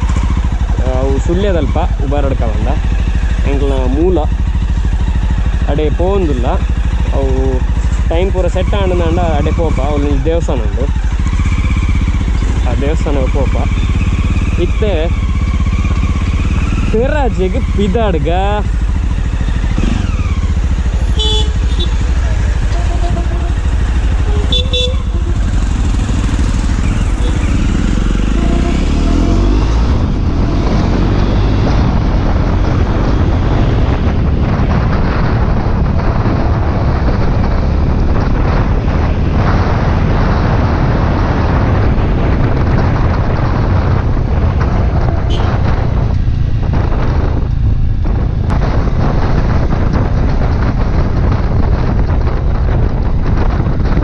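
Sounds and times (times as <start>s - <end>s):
motorcycle engine: 0.0s - 54.0s
wind buffeting microphone: 0.0s - 54.0s.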